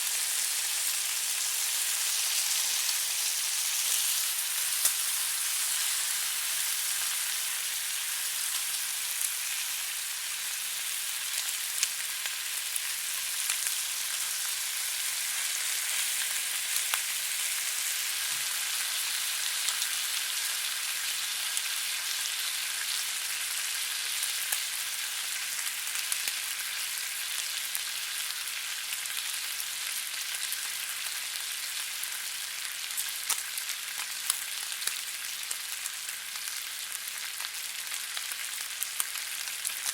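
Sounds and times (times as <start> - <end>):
bacon sizzling in a frying pan: 0.0 - 39.9.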